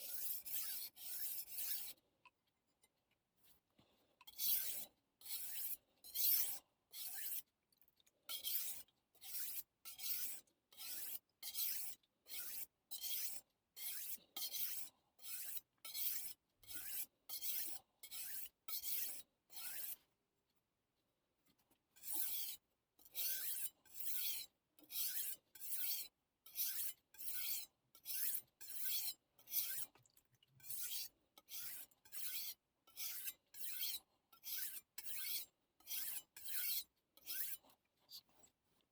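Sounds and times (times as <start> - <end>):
knife scraping on whetstone: 0.0 - 2.0, 4.3 - 7.4, 8.3 - 20.0, 22.0 - 29.9, 30.6 - 38.3.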